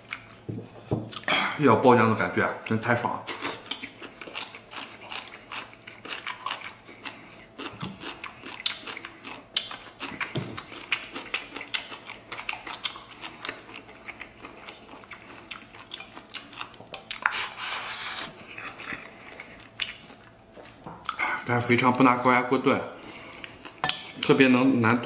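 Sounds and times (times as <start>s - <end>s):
person chewing: 0.0s - 1.4s, 3.2s - 21.4s, 23.0s - 24.3s.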